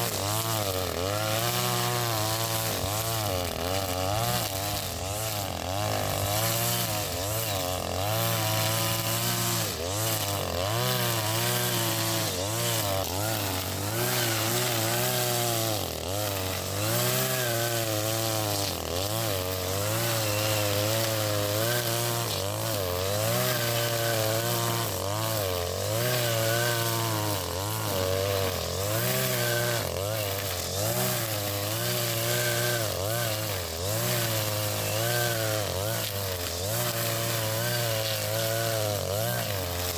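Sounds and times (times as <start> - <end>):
brush cutter running at high speed: 0.0 - 39.9.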